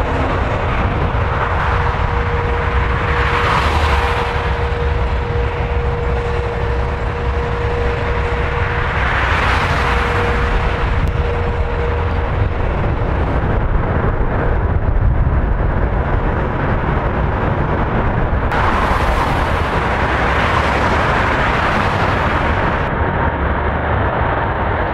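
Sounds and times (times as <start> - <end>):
deep rumble: 0.0 - 24.9
jet airliner landing: 0.0 - 24.9
steady hum: 0.0 - 24.9.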